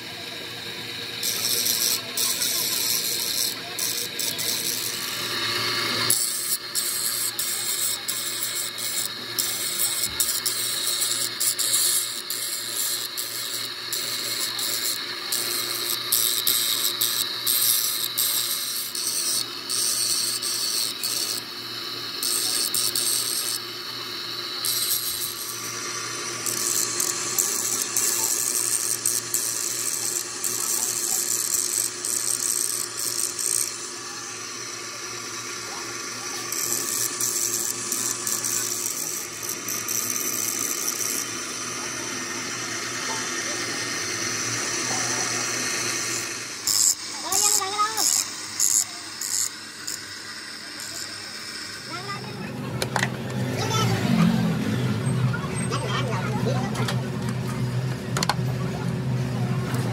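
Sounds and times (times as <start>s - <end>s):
grinding disc on steel: 0.0s - 59.9s
spindle motor humming: 0.0s - 59.9s.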